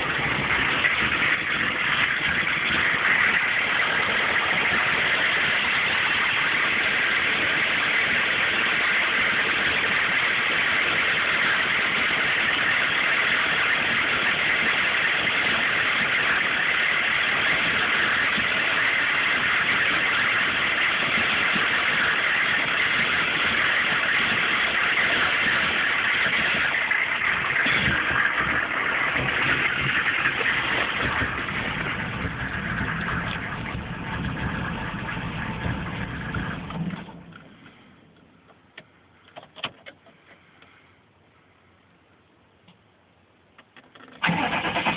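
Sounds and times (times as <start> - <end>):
low rumble: 0.0 - 38.5
diesel engine rough idle: 0.0 - 42.1, 44.2 - 44.9.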